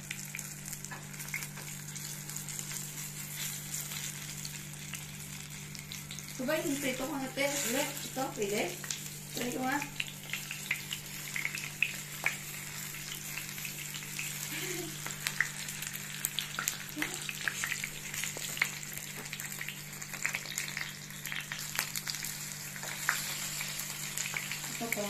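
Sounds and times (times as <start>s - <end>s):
oil sizzling in a frying pan: 0.0s - 25.0s.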